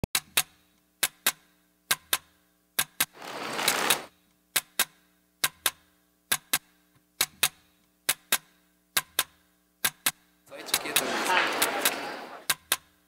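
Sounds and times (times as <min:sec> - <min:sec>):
sharp clicks in pairs: 0:00.2 - 0:12.9.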